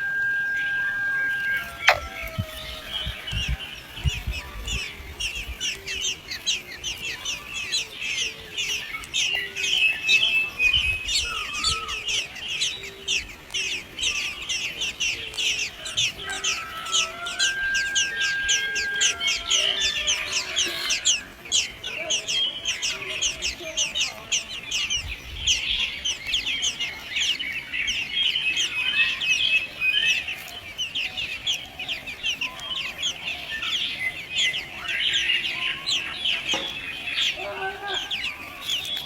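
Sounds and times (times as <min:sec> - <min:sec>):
nestling birds chirping: 0:00.0 - 0:39.0.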